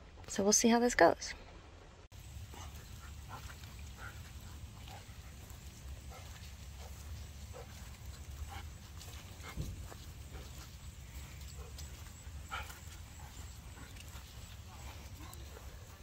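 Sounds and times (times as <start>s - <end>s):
steady low rumble: 1.6s - 16.0s
dog sniffing and snuffling: 2.2s - 16.0s.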